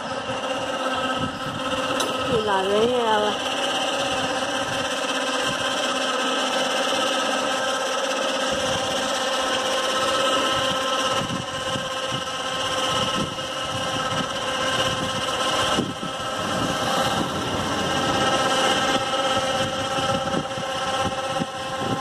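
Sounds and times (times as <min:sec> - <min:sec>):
ramp motor whining: 0:00.0 - 0:22.0.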